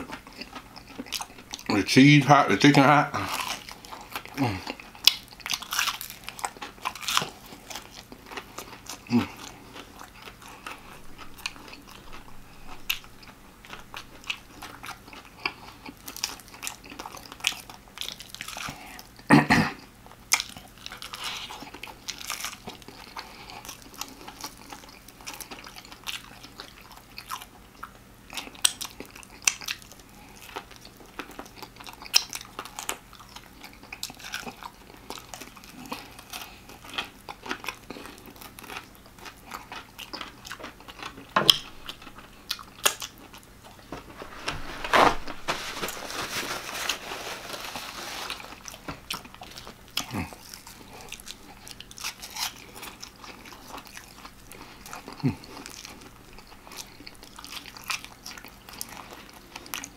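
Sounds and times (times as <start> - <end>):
person chewing crispy chicken: 0.0 - 59.9.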